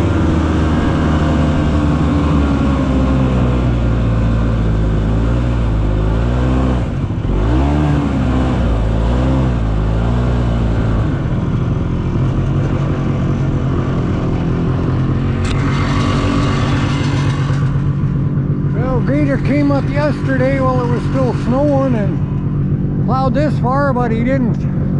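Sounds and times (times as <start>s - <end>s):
snowmobile engine revving: 0.0s - 24.9s.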